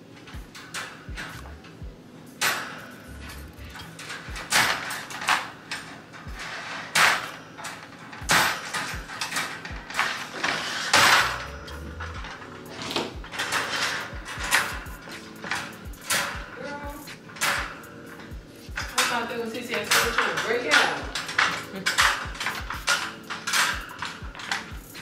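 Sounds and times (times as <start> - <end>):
metal wire panels rattling: 0.0 - 25.0.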